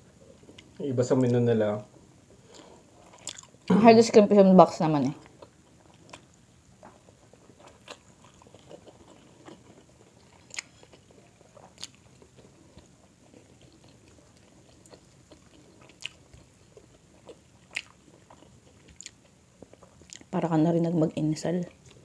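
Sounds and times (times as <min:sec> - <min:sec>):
people chewing food: 0:00.0 - 0:03.7, 0:04.8 - 0:22.0.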